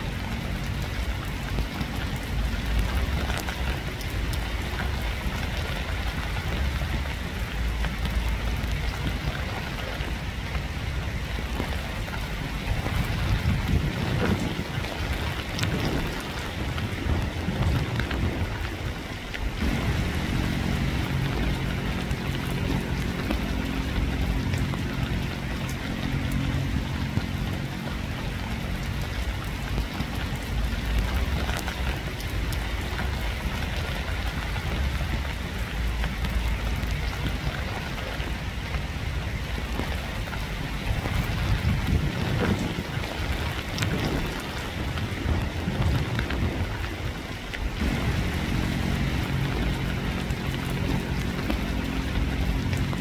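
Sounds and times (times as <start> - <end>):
low droning hum: 0.0 - 46.7, 47.6 - 53.0
low rumble: 0.0 - 53.0
steady rain falling: 0.0 - 53.0.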